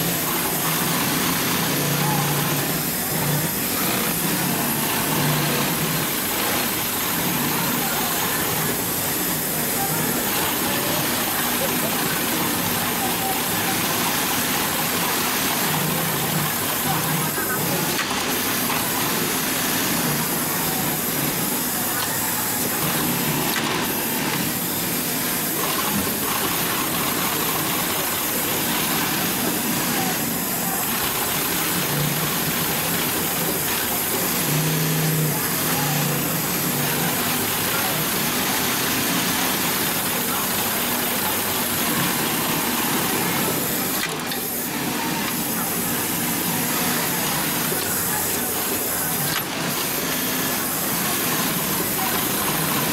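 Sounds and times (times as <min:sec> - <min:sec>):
sewing machine stitching leather: 0:00.0 - 0:52.9.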